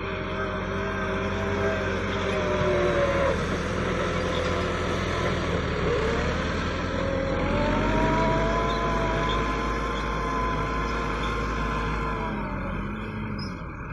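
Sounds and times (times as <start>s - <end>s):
tractor diesel engine under load: 0.0s - 13.9s.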